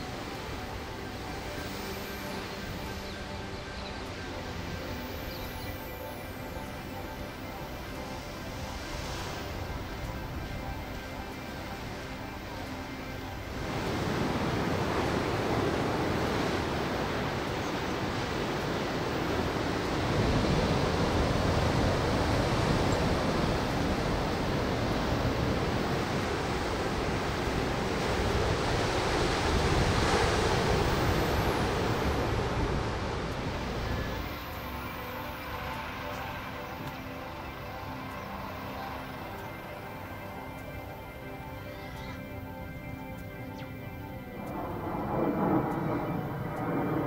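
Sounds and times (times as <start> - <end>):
faint music: 0.0 - 47.0.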